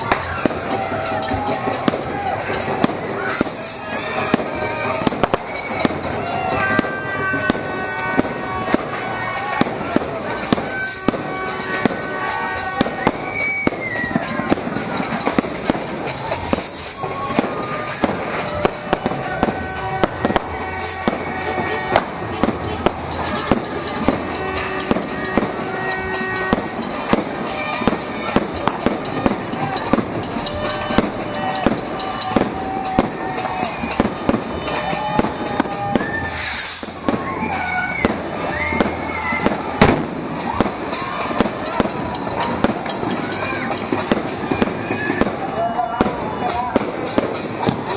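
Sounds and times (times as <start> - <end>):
firecrackers popping: 0.0 - 47.9
fountain fireworks crackling: 0.0 - 47.9
voices: 0.0 - 47.9.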